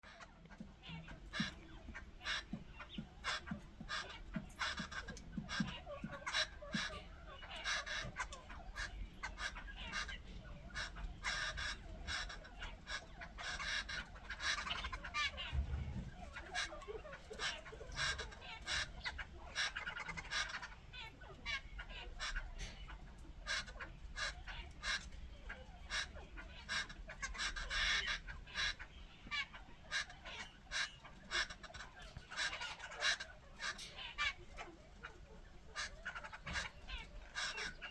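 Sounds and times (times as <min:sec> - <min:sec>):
babblers chattering calls: 0:00.0 - 0:37.9.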